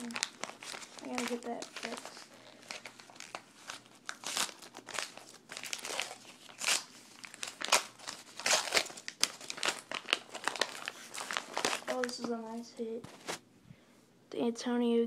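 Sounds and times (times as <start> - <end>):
foil wrapper crinkling: 0.0 - 13.4.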